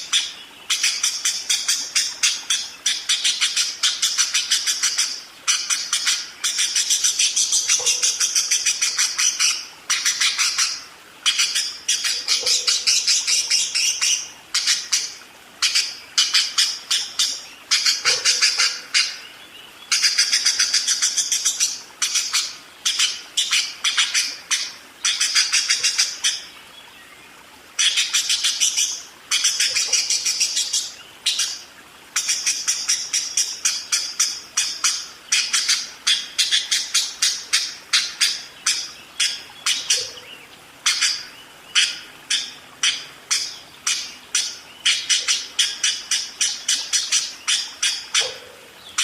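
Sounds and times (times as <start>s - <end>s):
budgerigars chattering: 0.0s - 19.3s, 19.9s - 26.4s, 27.8s - 31.6s, 32.2s - 49.0s.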